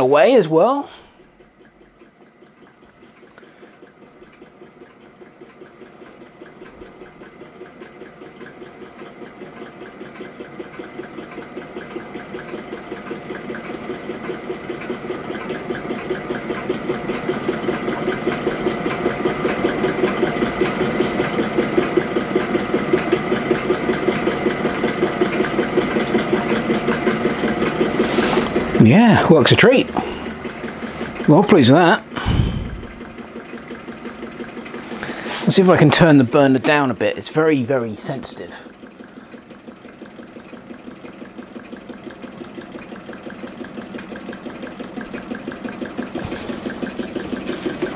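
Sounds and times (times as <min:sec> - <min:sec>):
model engine running: 0:02.8 - 0:47.9.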